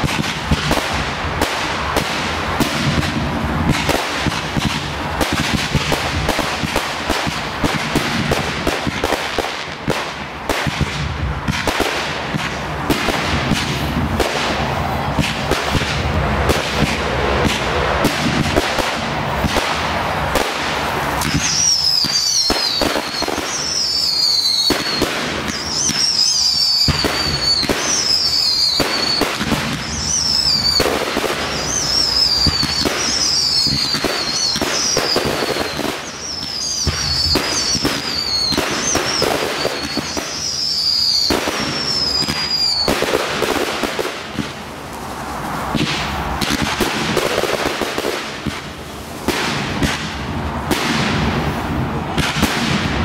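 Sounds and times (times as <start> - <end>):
firework bangs and crackling: 0.0 - 53.0
whistling fireworks: 0.0 - 53.0.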